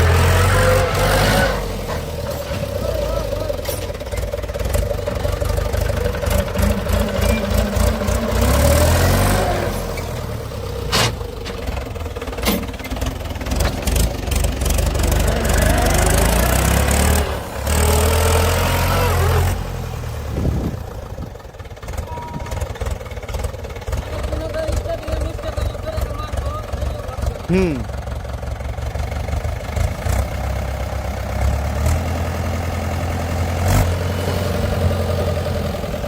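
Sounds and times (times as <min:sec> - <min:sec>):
diesel engine revving: 0:00.0 - 0:36.0.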